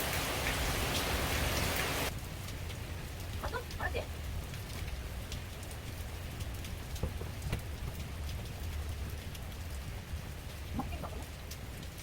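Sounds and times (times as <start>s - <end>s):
rain pattering on leaves: 0.0s - 12.0s.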